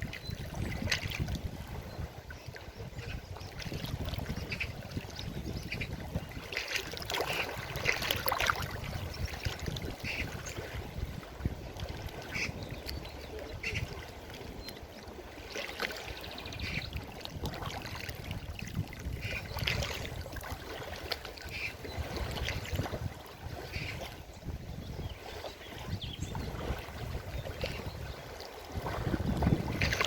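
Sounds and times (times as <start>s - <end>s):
water splashing: 0.0s - 24.2s, 25.2s - 30.0s
river water flowing and gurgling: 0.0s - 30.0s.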